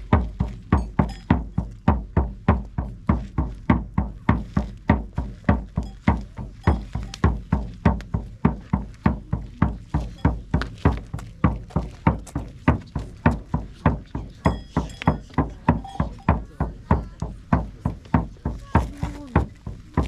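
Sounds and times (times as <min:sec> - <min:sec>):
drumbeat with deep thuds: 0:00.0 - 0:20.0.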